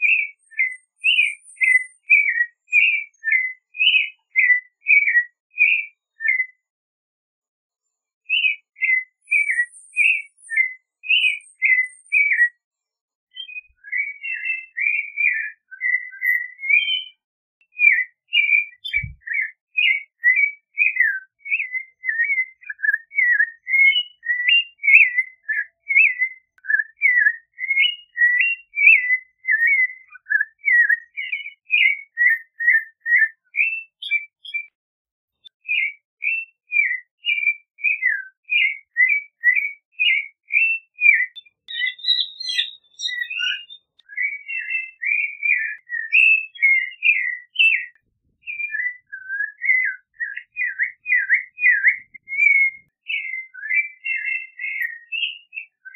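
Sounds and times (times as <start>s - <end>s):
thrush singing whistled notes: 0.0s - 6.6s, 8.3s - 12.6s, 13.3s - 34.8s, 35.4s - 55.9s.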